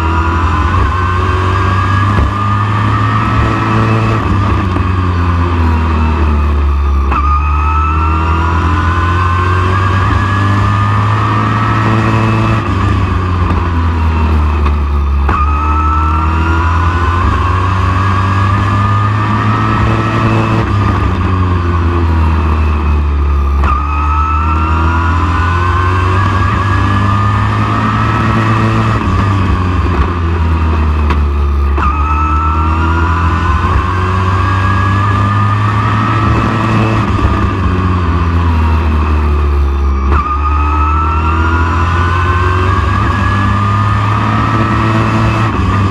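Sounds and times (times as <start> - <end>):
race truck engine revving: 0.0 - 45.9.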